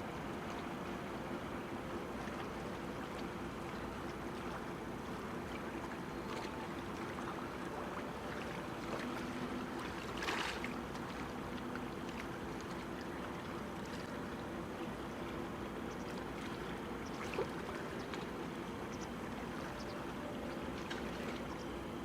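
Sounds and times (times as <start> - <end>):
faint low hum: 0.1 - 22.0.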